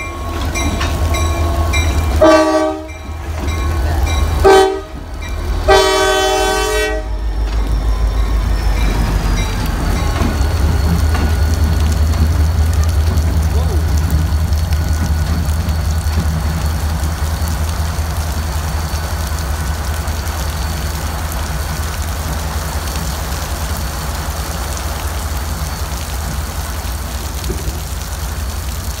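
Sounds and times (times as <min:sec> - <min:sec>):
diesel locomotive engines rumbling: 0:00.0 - 0:29.0
rain hissing: 0:00.0 - 0:29.0.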